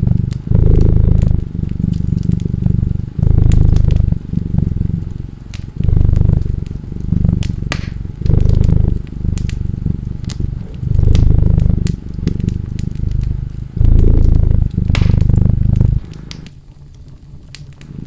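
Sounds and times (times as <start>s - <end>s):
cat purring: 0.0s - 18.0s
fire crackling and popping: 0.0s - 18.0s.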